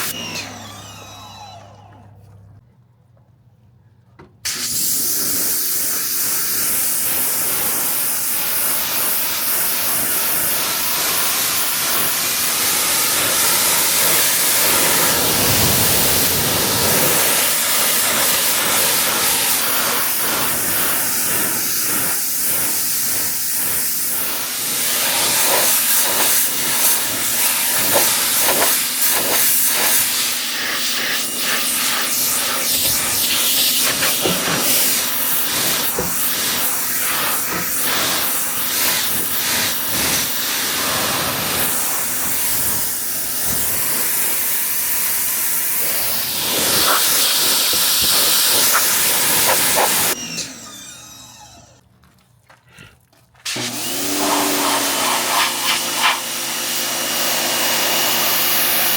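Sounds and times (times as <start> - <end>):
pressure washer water jet spraying: 4.5 - 50.8, 53.5 - 58.9.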